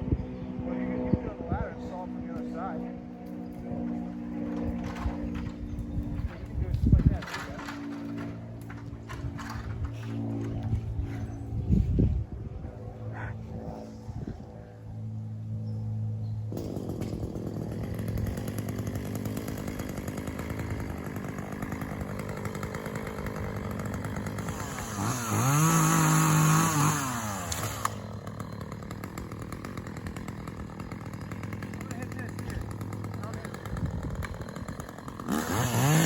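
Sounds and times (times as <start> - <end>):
chainsaw engine idling and revving: 0.5 - 12.0, 13.0 - 36.0.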